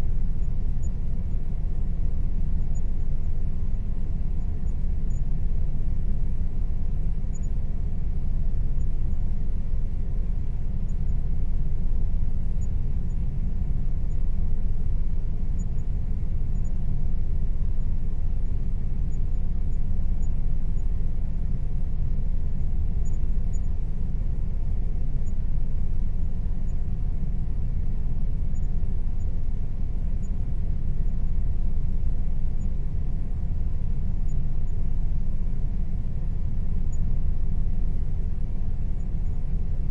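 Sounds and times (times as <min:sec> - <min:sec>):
air conditioner rumble: 0:00.0 - 0:39.9
faint steady hum: 0:00.0 - 0:39.9.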